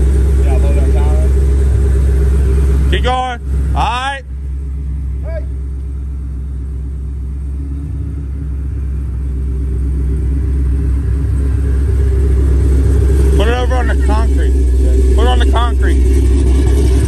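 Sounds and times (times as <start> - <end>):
car engine rumbling at low revs: 0.0 - 17.0.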